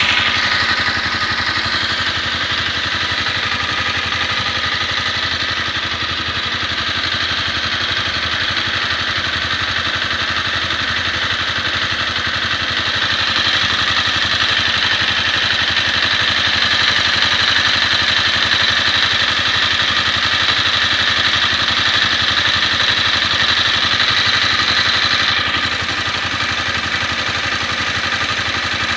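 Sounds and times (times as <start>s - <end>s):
motorcycle engine idling with ticking: 0.0s - 28.9s.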